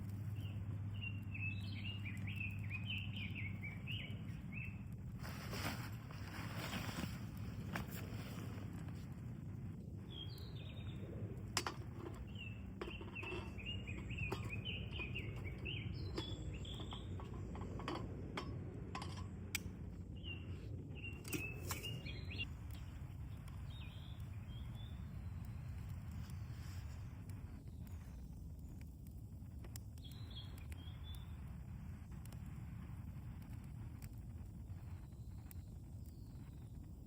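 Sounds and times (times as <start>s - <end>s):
small birds chirping: 0.0s - 18.1s, 19.0s - 31.6s, 34.0s - 37.0s
low background rumble: 0.0s - 37.0s.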